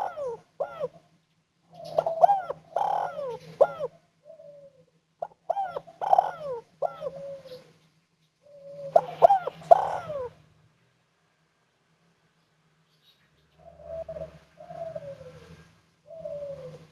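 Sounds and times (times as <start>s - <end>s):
dove cooing: 0.0s - 10.4s, 13.5s - 16.9s.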